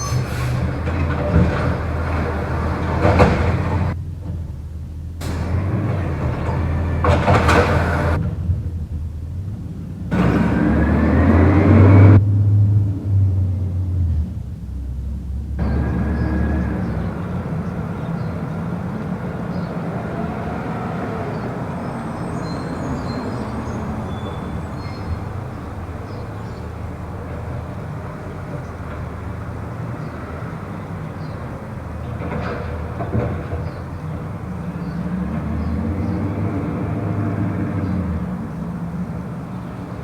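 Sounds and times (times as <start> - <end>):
garbage truck engine rumbling: 0.0 - 40.0.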